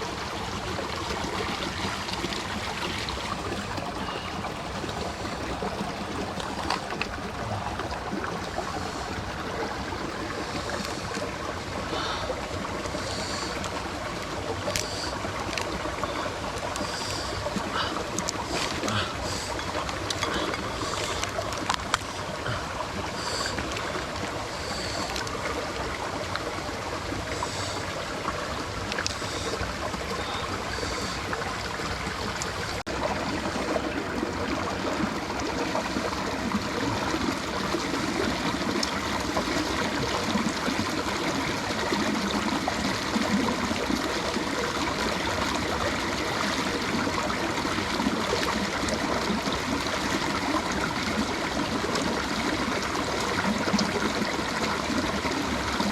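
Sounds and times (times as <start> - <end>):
mountain stream water running: 0.0 - 55.9.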